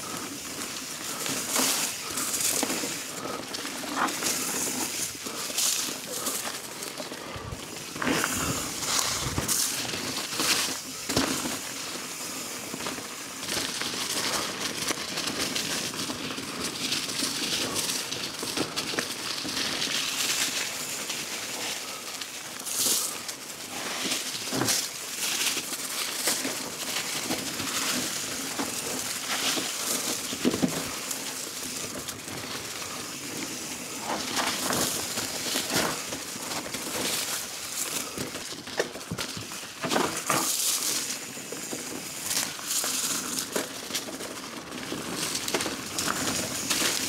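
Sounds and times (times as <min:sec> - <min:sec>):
footsteps crunching on trail ground: 0:00.0 - 0:47.0.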